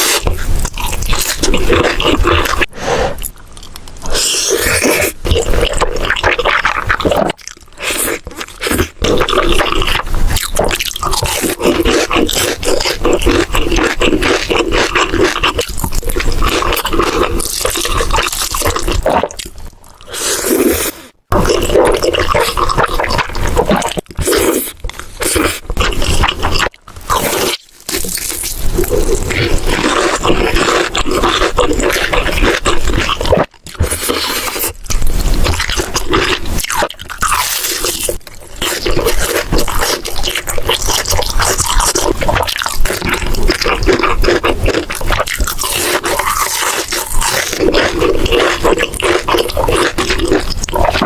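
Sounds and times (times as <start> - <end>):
crunching and chewing food: 0.0 - 51.0.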